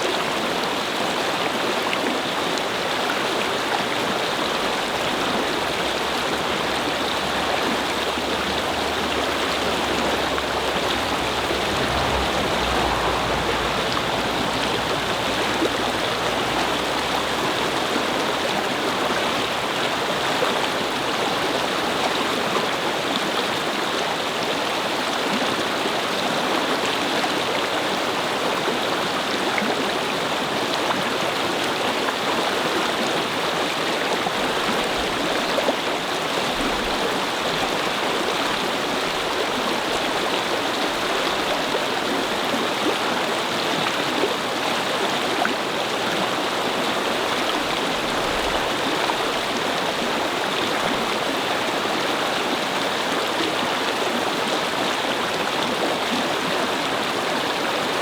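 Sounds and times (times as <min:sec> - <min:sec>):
brook babbling over stones: 0:00.0 - 0:58.0.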